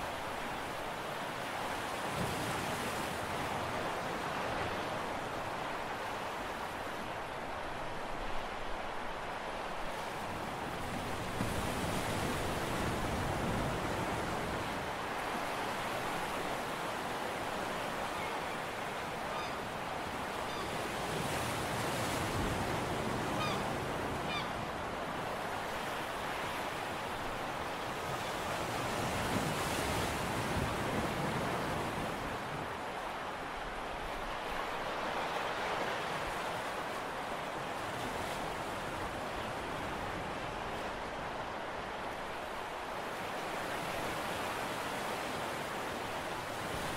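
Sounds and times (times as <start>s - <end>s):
sea waves: 0.0s - 46.9s
wind: 0.0s - 46.9s.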